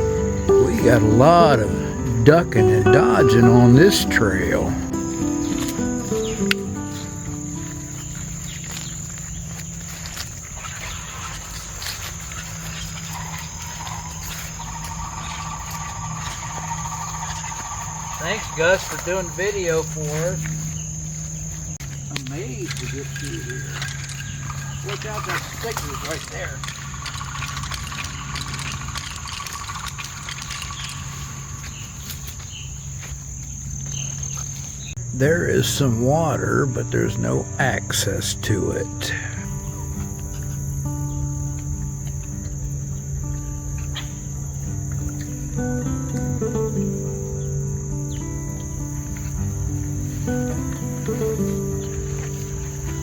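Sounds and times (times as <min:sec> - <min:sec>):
insects trilling: 0:00.0 - 0:53.0
lower-pitched insect tone: 0:00.0 - 0:53.0
footsteps rustling through brush: 0:04.8 - 0:35.0, 0:38.8 - 0:53.0.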